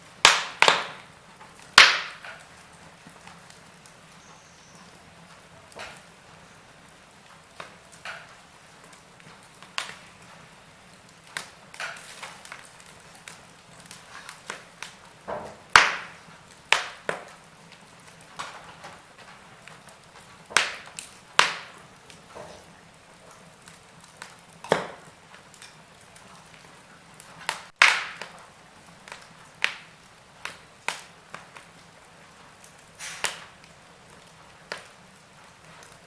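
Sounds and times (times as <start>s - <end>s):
faint steady hiss: 0.0s - 36.0s
wood fire crackling and popping: 0.0s - 36.0s.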